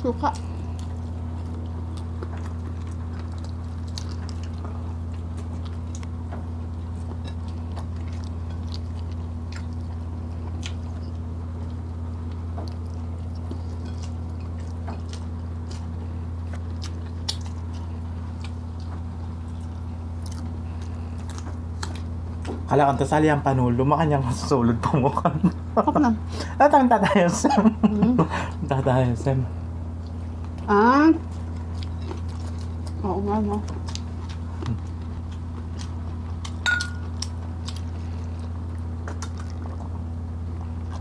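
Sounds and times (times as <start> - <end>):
steady low hum: 0.0 - 41.0
chewing with mouth clicks: 0.2 - 23.0, 30.0 - 41.0.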